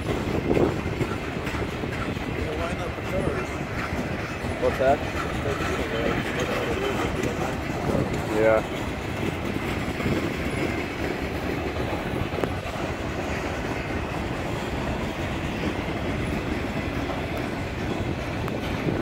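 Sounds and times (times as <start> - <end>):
train clacks: 0.0 - 19.0
train wheels rumbling on rail: 0.0 - 19.0.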